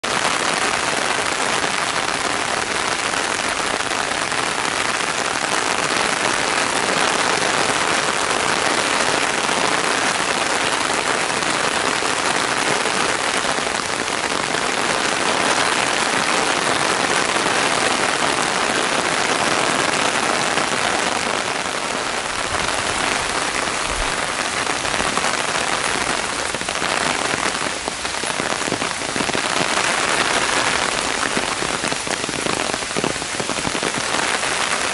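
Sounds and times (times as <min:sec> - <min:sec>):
heavy rain on water and leaves: 0:00.0 - 0:34.9.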